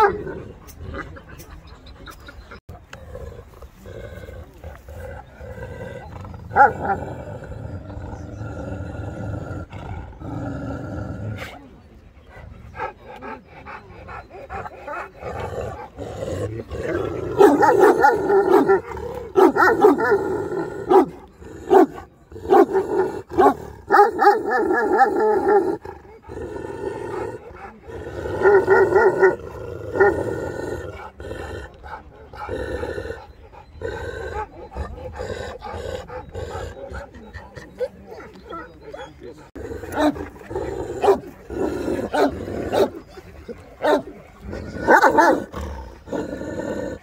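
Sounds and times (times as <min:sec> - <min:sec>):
large dogs barking: 0:00.0 - 0:03.0, 0:04.4 - 0:47.0.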